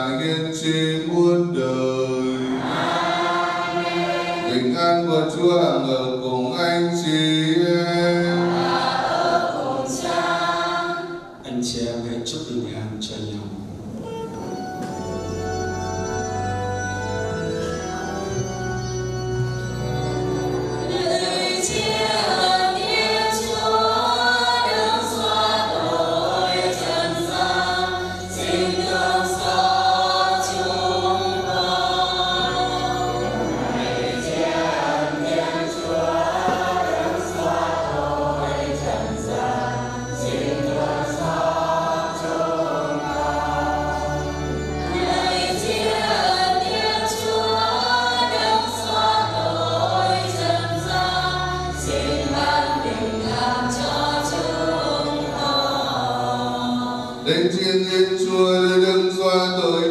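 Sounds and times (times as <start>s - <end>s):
choir singing a hymn: 0.0s - 11.8s, 16.3s - 59.9s
organ accompaniment: 0.0s - 59.9s.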